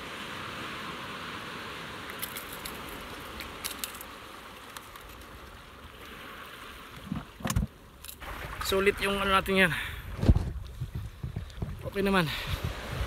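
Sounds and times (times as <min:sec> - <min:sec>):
sea water washing: 0:00.0 - 0:13.0.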